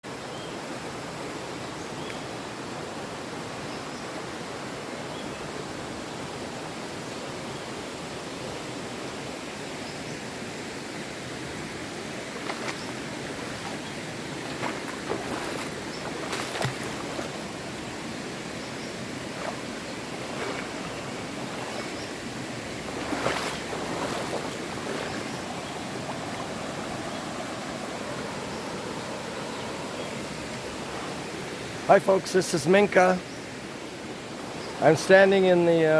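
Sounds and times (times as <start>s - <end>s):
river rushing over rocks: 0.6s - 35.9s.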